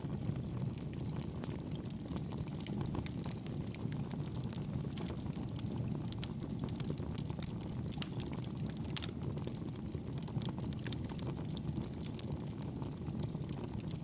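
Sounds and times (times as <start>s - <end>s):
burning logs crackling and popping: 0.0s - 14.0s
fire rumbling: 0.0s - 14.0s.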